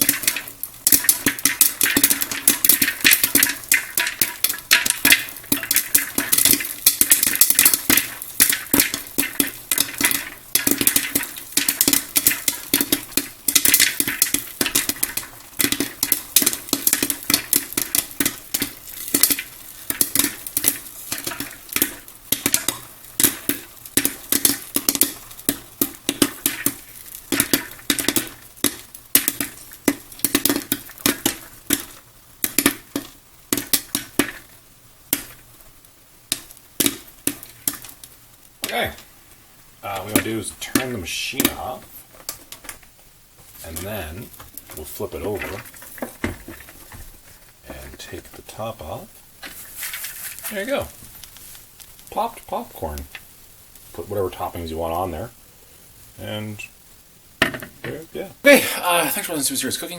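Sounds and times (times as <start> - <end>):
popcorn popping: 0.0 - 55.4, 57.4 - 59.9.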